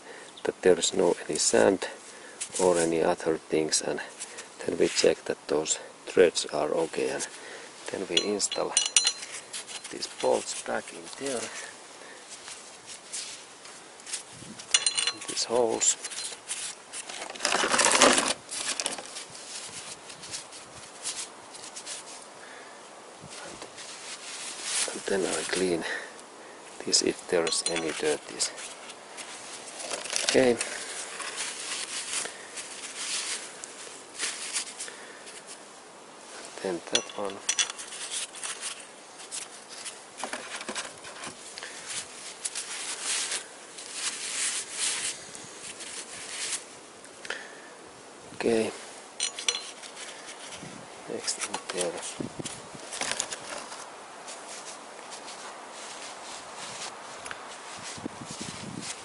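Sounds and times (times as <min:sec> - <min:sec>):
scraping rustle: 0:00.9 - 0:05.6, 0:06.5 - 0:22.6, 0:23.2 - 0:26.1, 0:26.7 - 0:46.8, 0:48.4 - 0:59.0.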